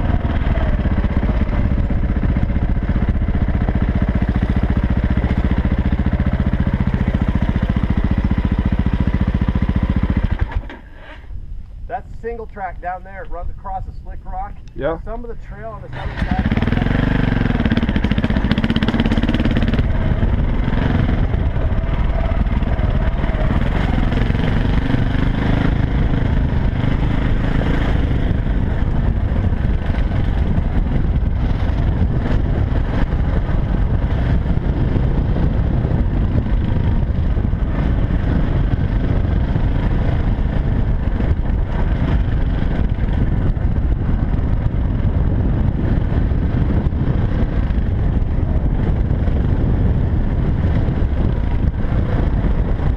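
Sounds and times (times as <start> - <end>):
dirt bike engine revving: 0.0 - 11.3, 15.8 - 52.9
steady low rumble: 0.0 - 52.9.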